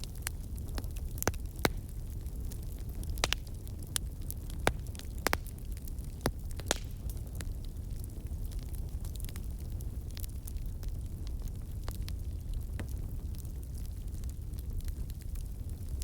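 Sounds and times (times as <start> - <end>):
campfire crackles and pops: 0.0 - 16.0
low rumble of flames: 0.0 - 16.0.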